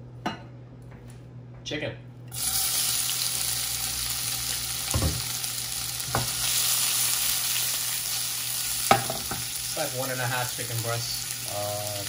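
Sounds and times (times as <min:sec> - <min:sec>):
chicken sizzling in hot oil: 0:02.3 - 0:12.0.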